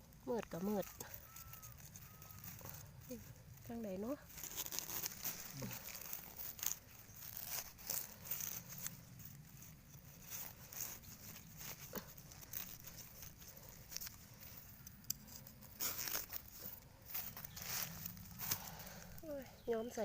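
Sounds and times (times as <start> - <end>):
dry leaves and twigs rustling: 0.0 - 20.0
twigs snapping: 0.2 - 19.2.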